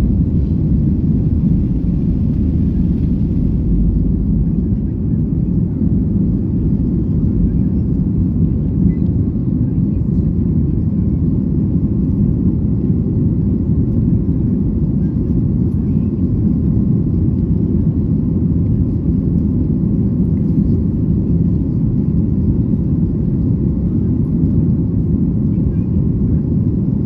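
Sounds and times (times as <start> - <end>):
jet engine cabin rumble: 0.0 - 27.0.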